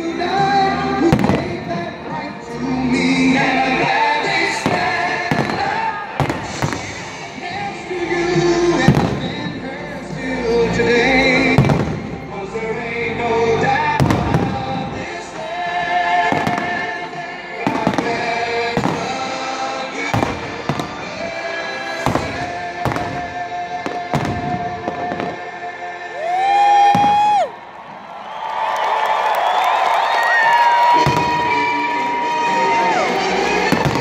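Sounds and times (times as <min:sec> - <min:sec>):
music playing: 0:00.0 - 0:27.5, 0:29.5 - 0:34.0.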